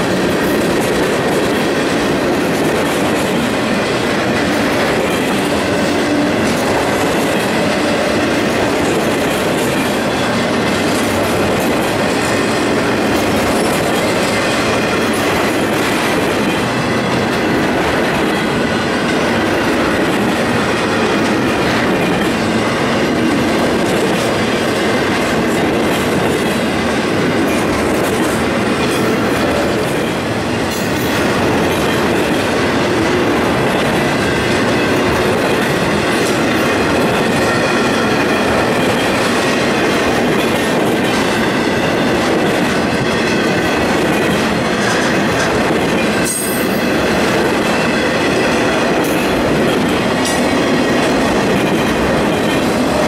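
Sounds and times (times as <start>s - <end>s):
freight train clattering past: 0.0s - 53.0s.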